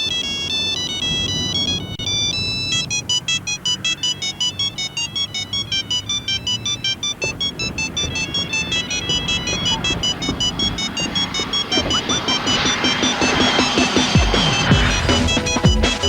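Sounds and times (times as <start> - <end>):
phone ringtone beeping melody: 0.0 - 16.0.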